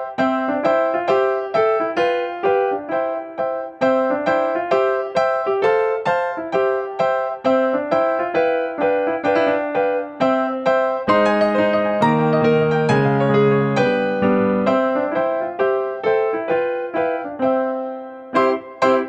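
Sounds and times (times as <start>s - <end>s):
electric piano melody: 0.0s - 19.0s.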